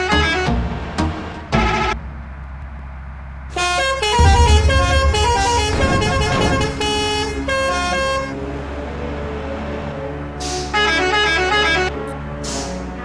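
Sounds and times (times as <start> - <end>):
bus musical horn: 0.0 - 2.2, 3.5 - 13.0
low engine hum: 0.0 - 10.9.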